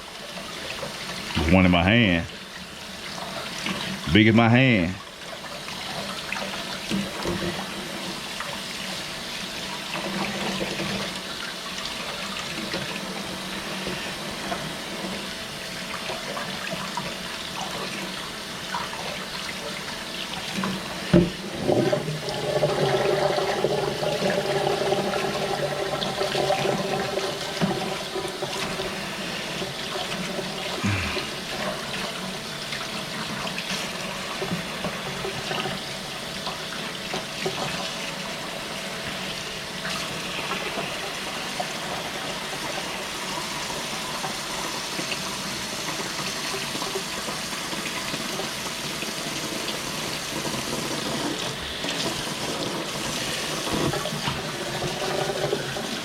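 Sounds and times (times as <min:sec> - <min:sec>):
running water pitched ring: 0:00.0 - 0:56.0
tap water running: 0:00.0 - 0:56.0.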